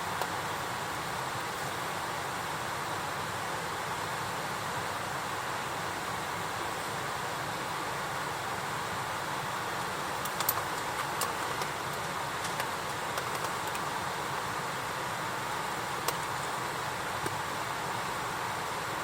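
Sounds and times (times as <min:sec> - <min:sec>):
campfire hiss: 0:00.0 - 0:19.0.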